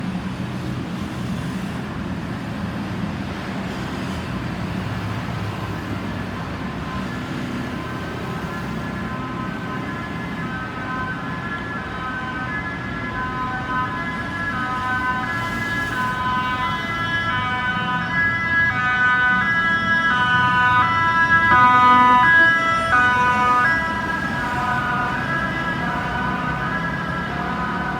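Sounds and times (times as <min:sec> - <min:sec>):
road traffic noise: 0:00.0 - 0:27.9
faint siren tones: 0:05.4 - 0:27.9.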